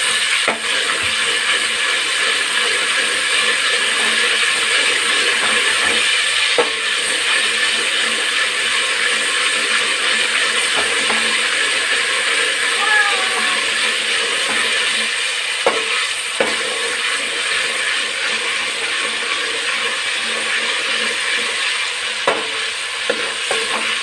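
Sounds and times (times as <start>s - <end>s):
paste sizzling in hot oil: 0.0s - 24.0s.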